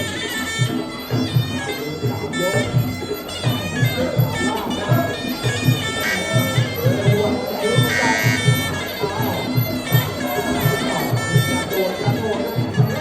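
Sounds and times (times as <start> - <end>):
nasal oboe melody: 0.0 - 13.0
quick steady drum beat: 0.0 - 13.0.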